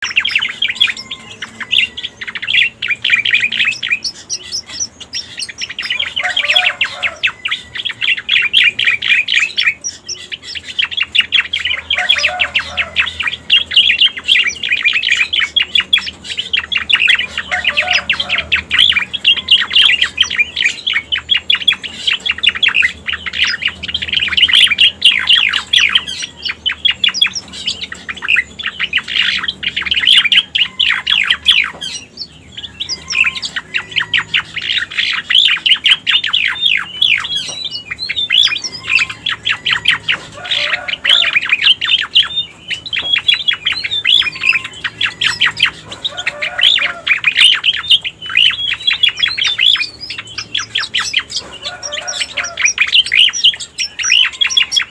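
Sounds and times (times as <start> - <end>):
rapid high bird chirping: 0.0 - 54.9.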